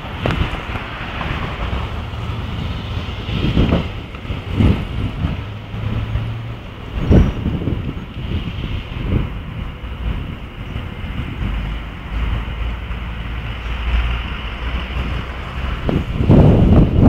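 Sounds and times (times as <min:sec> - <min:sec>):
traffic engine hum: 0:00.0 - 0:17.0
wind buffeting microphone: 0:00.0 - 0:17.0.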